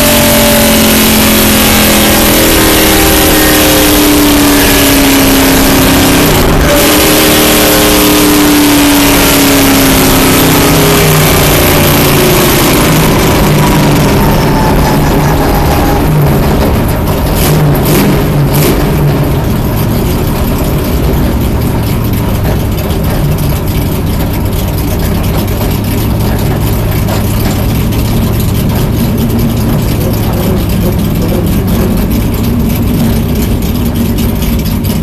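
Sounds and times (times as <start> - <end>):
car engine running low drone: 0.0 - 35.0.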